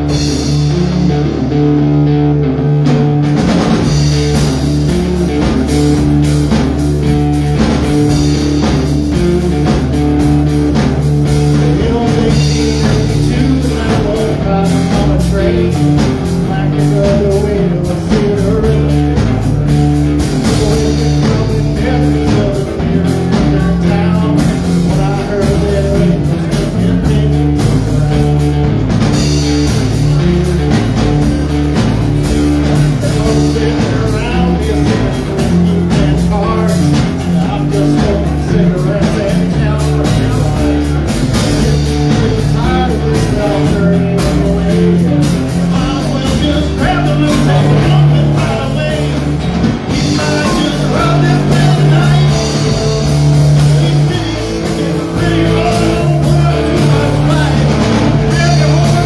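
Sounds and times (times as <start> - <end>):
bass line: 0.0 - 59.0
drums: 0.0 - 59.0
electric guitar: 0.0 - 59.0.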